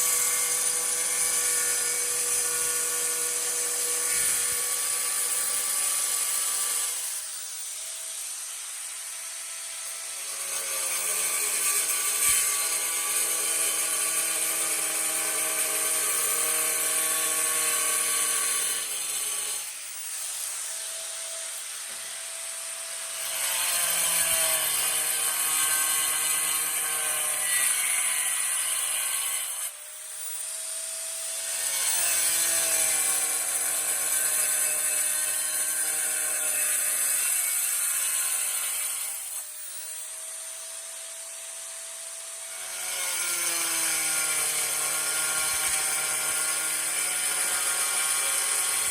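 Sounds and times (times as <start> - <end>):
angle grinder cutting tile: 0.0 - 48.9.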